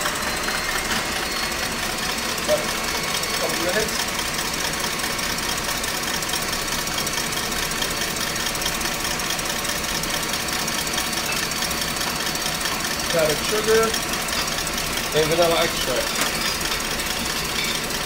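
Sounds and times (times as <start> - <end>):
stand mixer whisking cream: 0.0 - 18.0.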